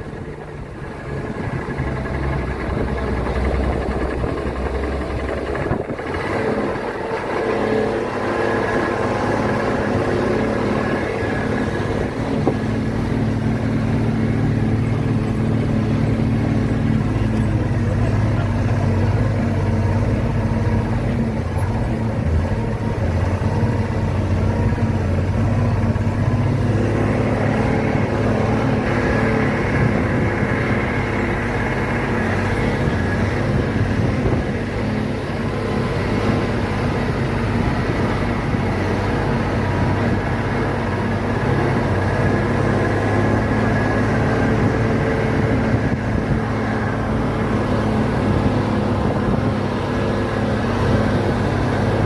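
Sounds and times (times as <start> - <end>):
road and cab noise: 0.0 - 52.0
truck engine running: 0.0 - 52.0.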